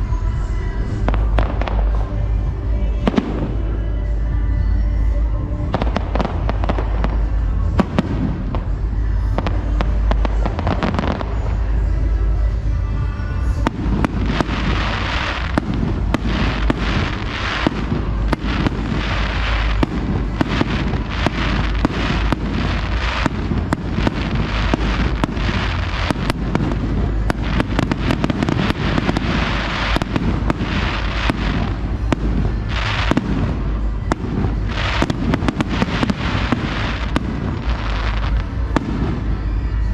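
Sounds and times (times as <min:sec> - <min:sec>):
fireworks bangs and crackles: 0:00.0 - 0:39.9
music playing: 0:00.0 - 0:39.9.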